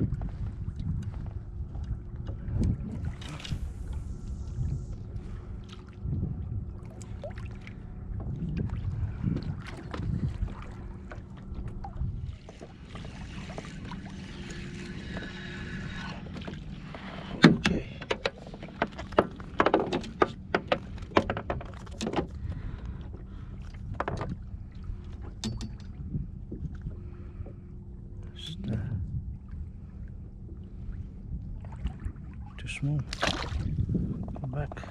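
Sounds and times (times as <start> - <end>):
steady low hum: 0.0 - 34.9
water noise: 0.0 - 34.9.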